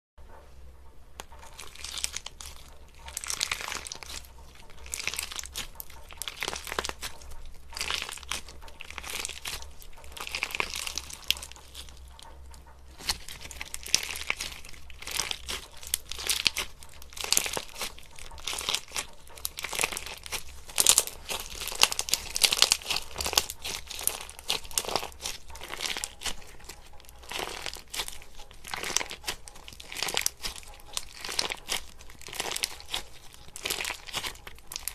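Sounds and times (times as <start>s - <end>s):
crunchy slime crackling and popping: 1.2s - 34.9s.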